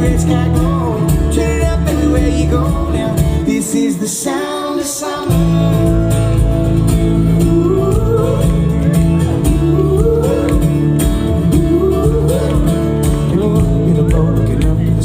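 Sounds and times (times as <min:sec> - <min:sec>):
steady drum beat: 0:00.0 - 0:03.4, 0:05.3 - 0:15.0
sustained bass line: 0:00.0 - 0:03.9, 0:05.3 - 0:15.0
guitar: 0:00.0 - 0:15.0.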